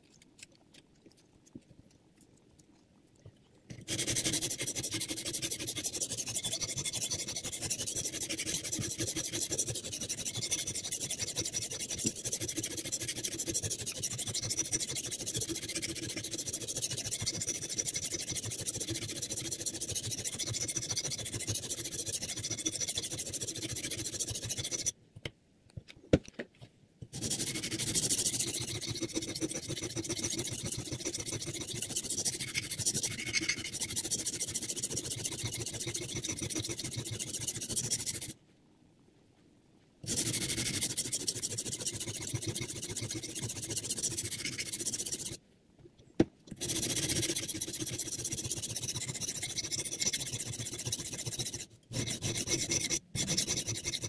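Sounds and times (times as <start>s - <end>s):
sharpening stone rasping on knife: 3.8s - 24.9s, 27.2s - 38.4s, 40.0s - 45.4s, 46.6s - 54.0s.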